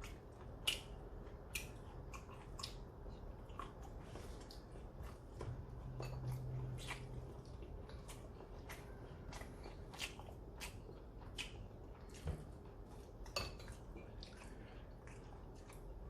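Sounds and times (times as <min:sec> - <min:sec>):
chewing and biting food: 0:00.0 - 0:16.0.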